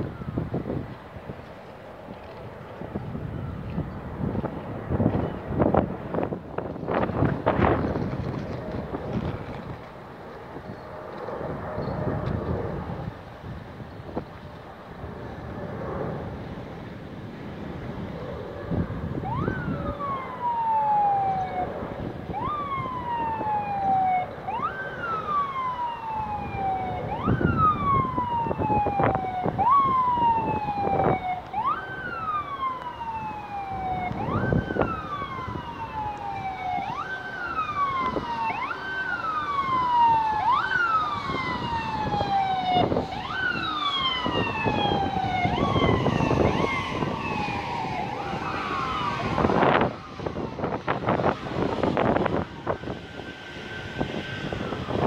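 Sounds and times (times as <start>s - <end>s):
emergency vehicle siren: 0.0s - 55.0s
wind buffeting microphone: 0.0s - 55.0s.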